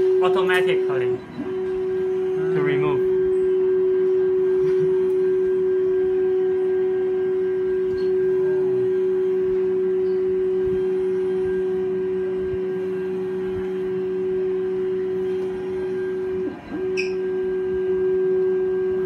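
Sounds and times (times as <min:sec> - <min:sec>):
printer motors whining: 0:00.0 - 0:19.0.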